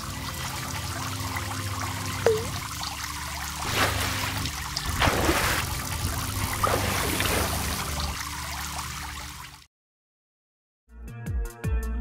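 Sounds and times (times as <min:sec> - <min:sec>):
water trickling and pouring: 0:00.0 - 0:09.7.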